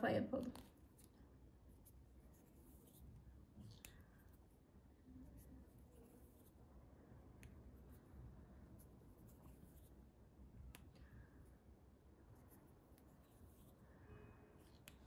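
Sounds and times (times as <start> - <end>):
needle and thread scratching: 0.3 - 15.0.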